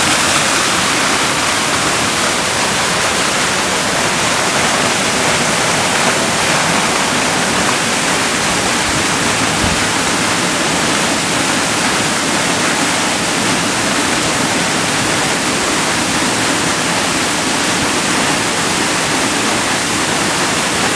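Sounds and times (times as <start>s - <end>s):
waterfall splashing into pool: 0.0s - 20.9s.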